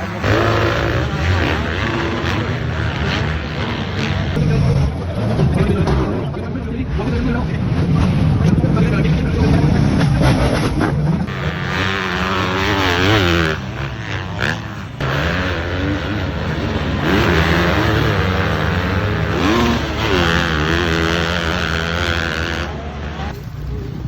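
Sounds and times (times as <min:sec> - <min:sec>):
motorcycle engines revving: 0:00.0 - 0:06.4, 0:07.4 - 0:24.0.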